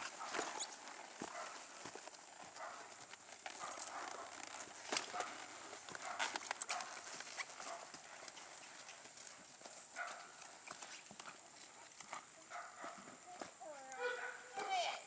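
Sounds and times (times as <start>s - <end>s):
horse hoofbeats on sand: 0.0s - 14.4s.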